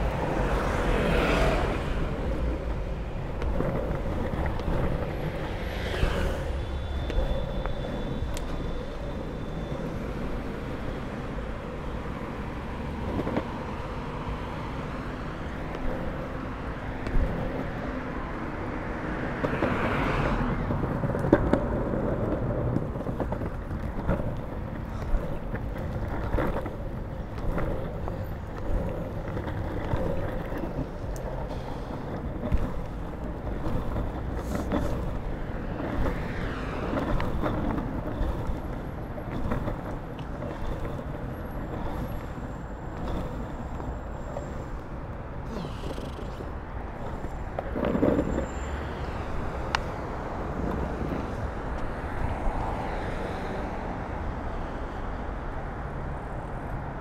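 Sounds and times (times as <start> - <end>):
longboard wheels rolling on pavement: 0.0 - 57.0
road traffic passing: 0.0 - 57.0
wheels clicking over pavement joints: 0.0 - 57.0.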